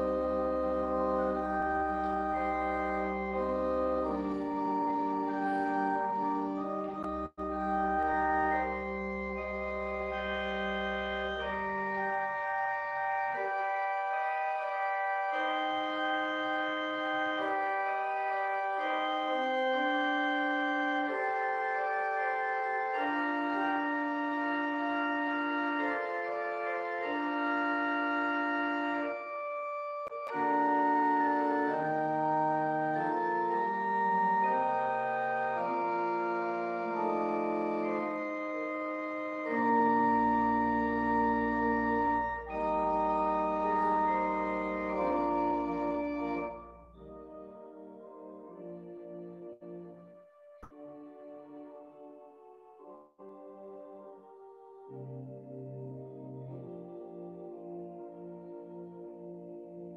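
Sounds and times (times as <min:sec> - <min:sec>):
deep organ pedal bass notes: 0:00.0 - 0:50.2, 0:51.0 - 0:59.9
pipe organ playing slow chords: 0:00.0 - 0:59.9.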